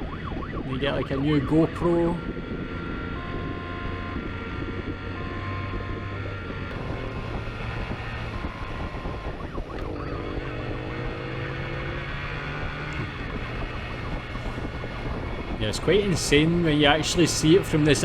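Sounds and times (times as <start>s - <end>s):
motorcycle engine running: 0.0s - 18.0s
two-tone police siren: 0.0s - 18.0s.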